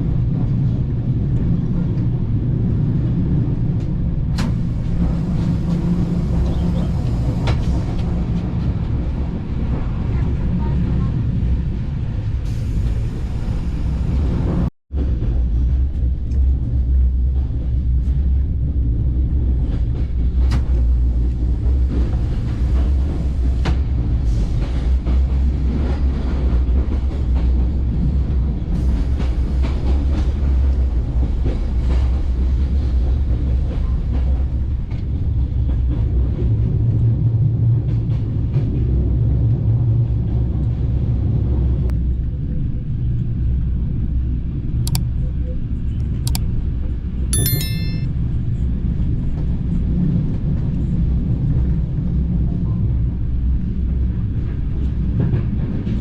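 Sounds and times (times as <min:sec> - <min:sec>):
train rumbling on rails: 0:00.0 - 0:45.0, 0:50.3 - 0:56.0.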